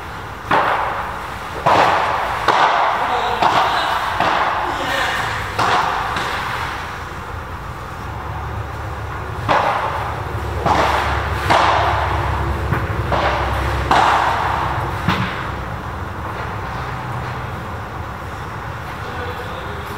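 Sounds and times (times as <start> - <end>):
rackets hitting ball: 0.0 - 19.1.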